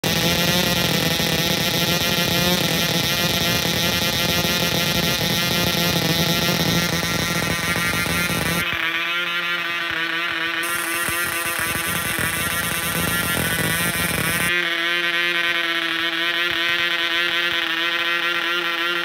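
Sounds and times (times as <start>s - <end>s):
model aero engine running: 0.0s - 19.0s.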